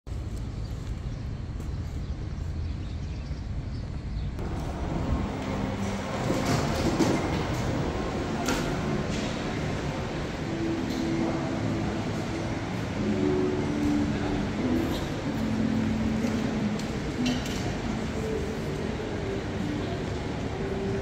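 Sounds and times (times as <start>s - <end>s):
indoor mall ambience: 0.1s - 21.0s.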